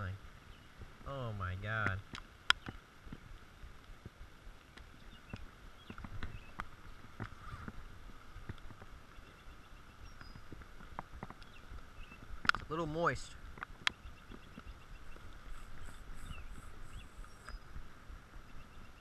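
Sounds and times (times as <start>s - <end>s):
rain hissing on a lake: 0.0s - 19.0s.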